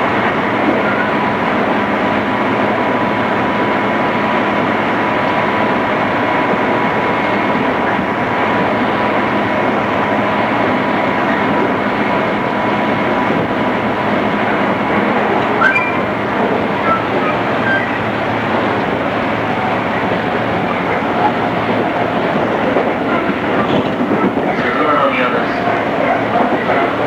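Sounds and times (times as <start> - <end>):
train car rumble: 0.0 - 27.0.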